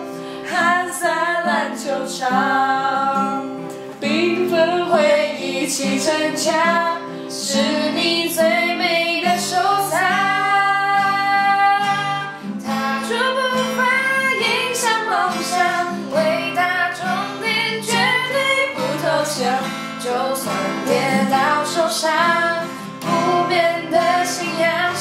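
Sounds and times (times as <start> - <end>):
strummed acoustic guitar: 0.0 - 25.0
two voices singing pop song: 0.0 - 25.0.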